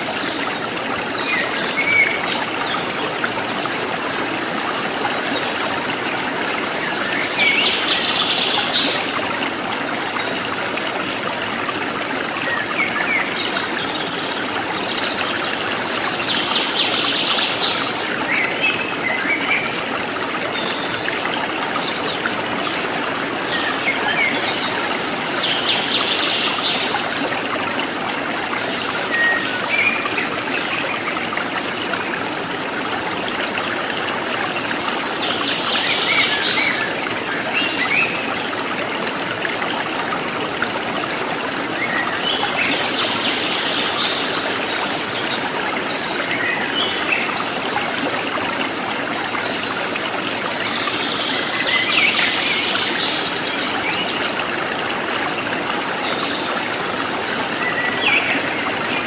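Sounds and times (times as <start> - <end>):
forest stream trickling: 0.0 - 59.0.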